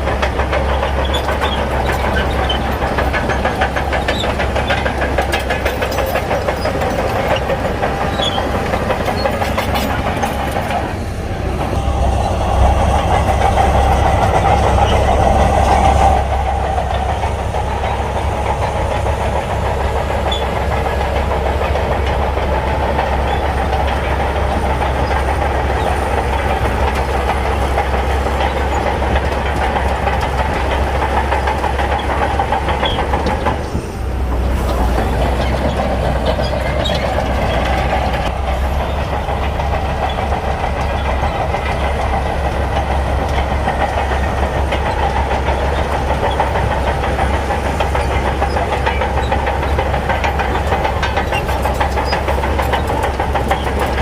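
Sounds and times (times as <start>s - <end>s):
bulldozer diesel engine: 0.0s - 54.0s
steel tracks rattling: 0.0s - 54.0s.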